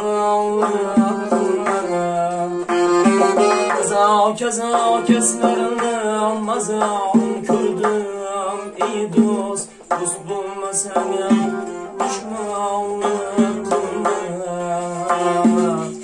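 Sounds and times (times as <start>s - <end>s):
accordion sustained chords: 0.0s - 16.0s
man singing: 0.0s - 16.0s
plucked lute: 0.0s - 16.0s
frame drum beating: 0.3s - 16.0s.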